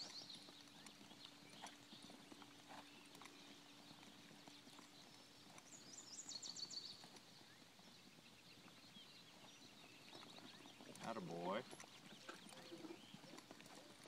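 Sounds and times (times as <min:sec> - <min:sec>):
horse hooves clip-clopping: 0:00.0 - 0:14.0.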